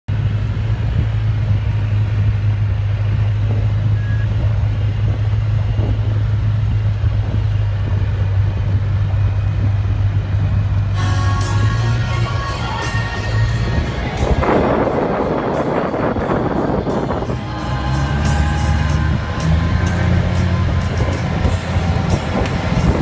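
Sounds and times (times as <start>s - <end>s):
tyres on dirt road: 0.0s - 23.0s
vehicle engine drone: 0.0s - 23.0s.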